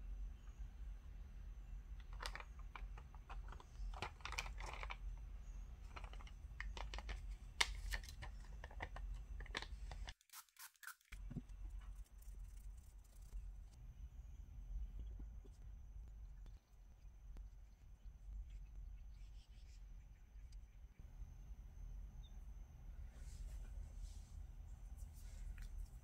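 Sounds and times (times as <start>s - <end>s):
low steady hum: 0.0s - 10.1s, 11.2s - 26.0s.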